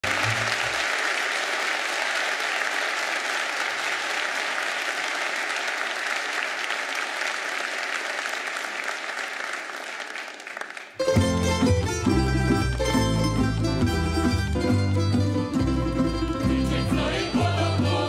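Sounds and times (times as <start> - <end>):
large audience clapping: 0.0 - 18.0.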